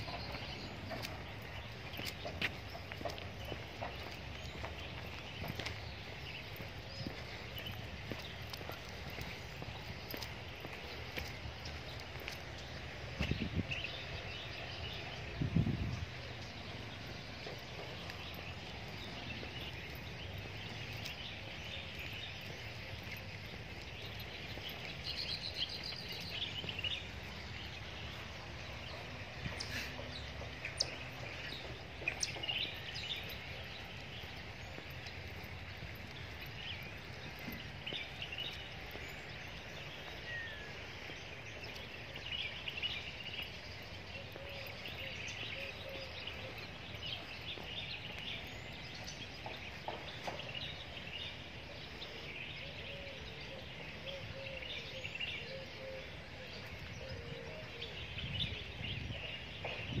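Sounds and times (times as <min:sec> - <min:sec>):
low background noise: 0:00.0 - 1:00.0
small birds chirping: 0:00.0 - 1:00.0.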